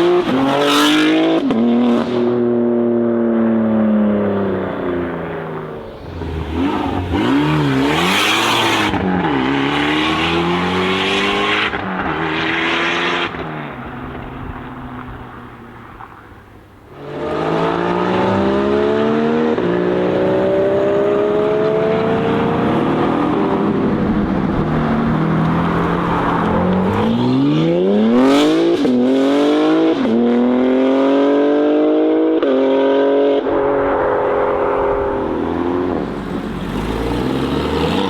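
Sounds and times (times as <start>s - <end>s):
car engine revving and accelerating: 0.0s - 15.0s, 16.9s - 38.0s.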